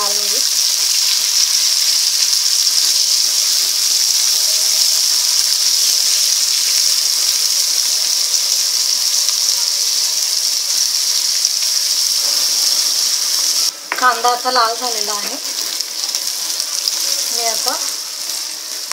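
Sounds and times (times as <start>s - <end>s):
onions sizzling in hot oil: 0.0s - 18.9s.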